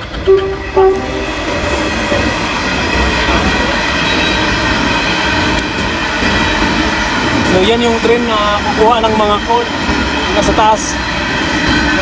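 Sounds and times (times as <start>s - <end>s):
freight train wagons rumbling: 0.0s - 12.0s.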